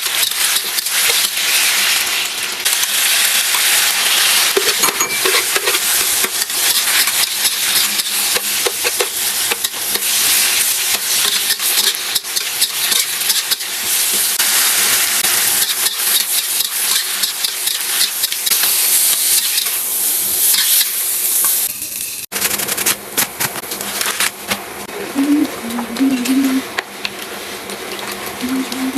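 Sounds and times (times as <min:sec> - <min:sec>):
vegetables sizzling in a pan: 0:00.0 - 0:24.8.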